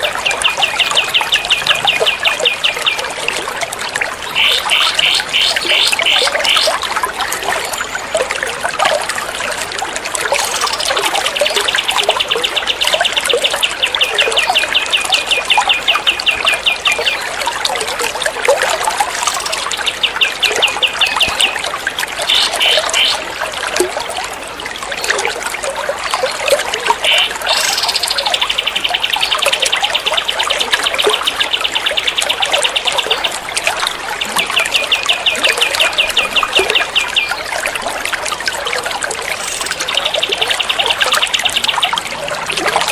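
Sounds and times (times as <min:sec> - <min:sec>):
water trickling: 0:00.0 - 0:42.9.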